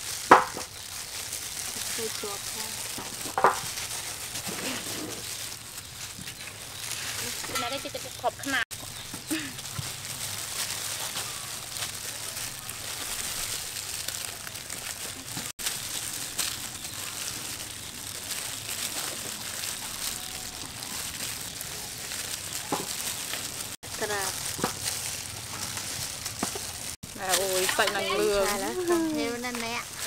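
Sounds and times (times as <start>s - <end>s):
plastic gloves crinkling: 0.0s - 30.0s.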